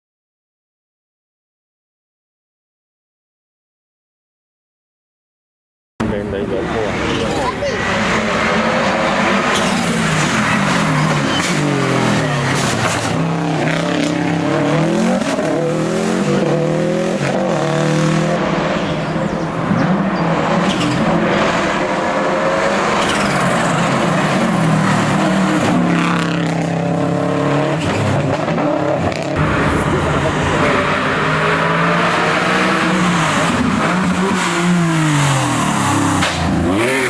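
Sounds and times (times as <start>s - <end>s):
rally car engine revving hard: 6.6s - 37.0s.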